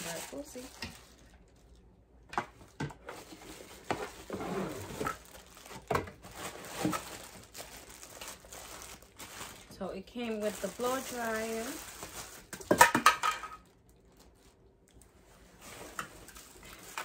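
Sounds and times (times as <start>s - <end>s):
plastic bag crinkling: 0.0s - 1.9s, 2.5s - 17.0s.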